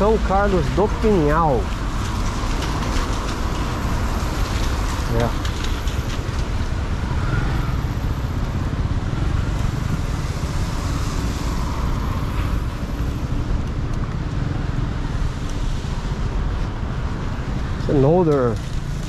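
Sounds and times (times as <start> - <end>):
passing cars and motorbikes: 0.0 - 19.0.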